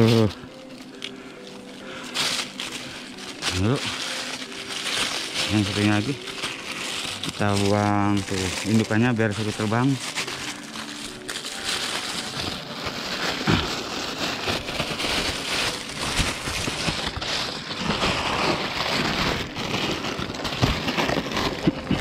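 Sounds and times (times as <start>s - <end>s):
plastic bag rustling and crinkling: 0.0s - 22.0s.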